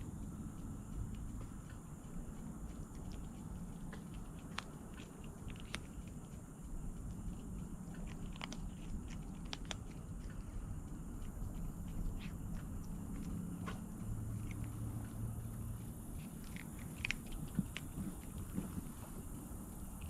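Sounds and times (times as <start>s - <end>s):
cat chewing food: 0.0s - 20.0s
steady low rumble: 0.0s - 20.0s.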